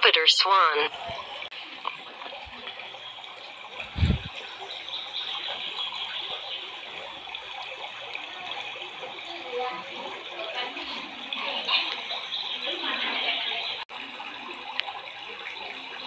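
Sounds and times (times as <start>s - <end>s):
water rushing and splashing: 0.0s - 16.0s.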